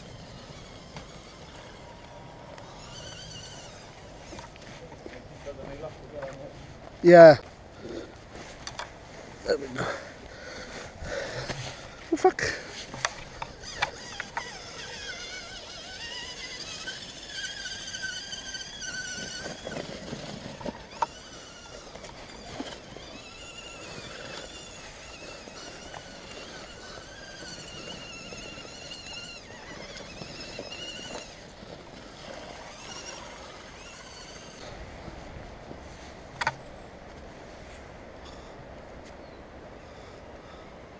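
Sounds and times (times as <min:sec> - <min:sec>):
small electric motors whining: 0:00.0 - 0:38.6.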